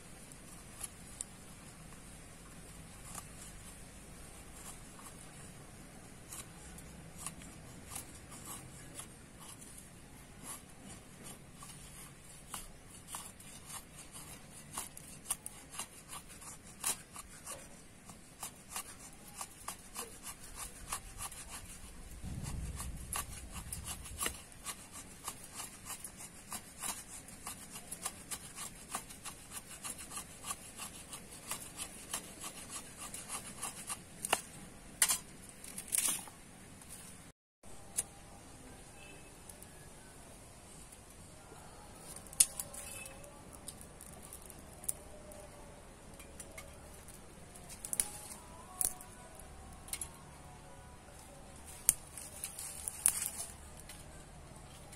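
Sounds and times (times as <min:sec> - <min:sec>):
knife scraping a stick: 0:00.1 - 0:37.2, 0:41.8 - 0:50.5, 0:51.1 - 0:54.9.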